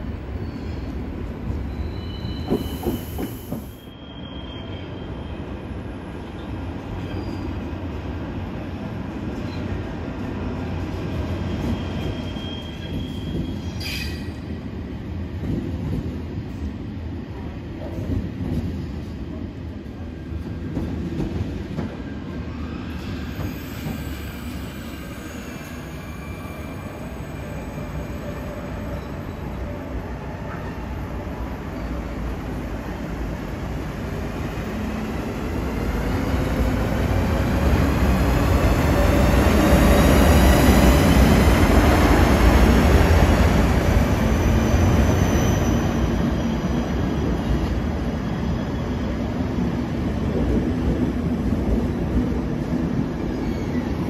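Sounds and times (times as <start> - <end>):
train running on rails: 0.0 - 54.0.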